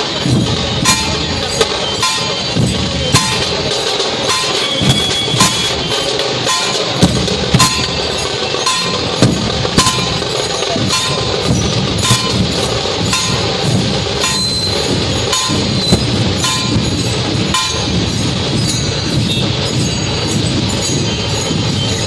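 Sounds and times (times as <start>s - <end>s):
dhol drums playing: 0.0s - 22.0s
metallic clashes: 0.0s - 22.0s.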